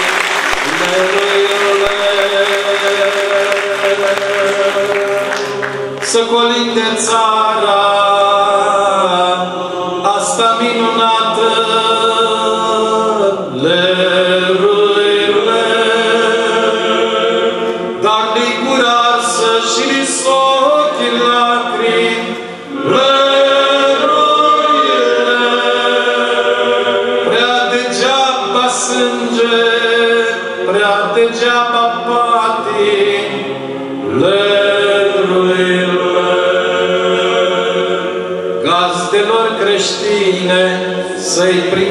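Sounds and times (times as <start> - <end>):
male choir singing a cappella: 0.0 - 41.9.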